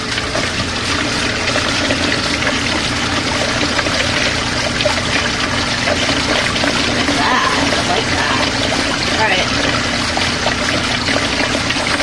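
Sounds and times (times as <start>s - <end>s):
washing machine hum: 0.0s - 12.0s
water sloshing in washing machine: 0.0s - 12.0s.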